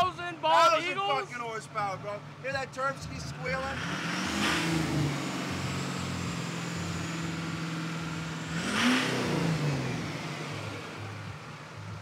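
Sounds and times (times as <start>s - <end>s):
truck engine running and revving: 1.8s - 12.0s.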